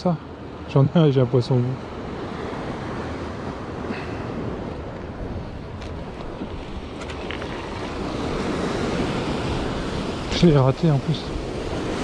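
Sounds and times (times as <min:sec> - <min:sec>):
sea waves washing on shore: 0:00.0 - 0:12.0
wind rumbling on microphone: 0:01.9 - 0:12.0.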